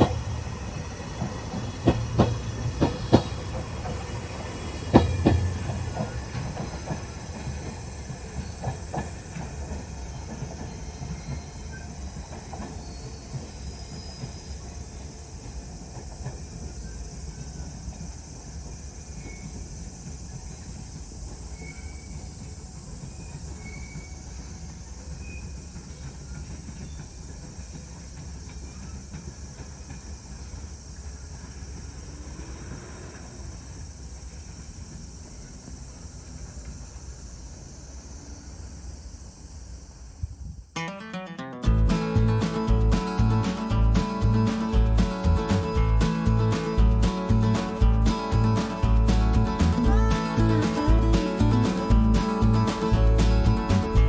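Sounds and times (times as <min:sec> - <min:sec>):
train low rumble: 0:00.0 - 0:40.7, 0:41.7 - 0:54.0.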